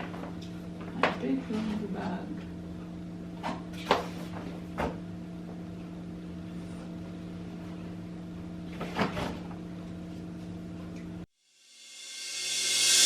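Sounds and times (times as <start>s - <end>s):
low electrical appliance hum: 0.0s - 11.3s.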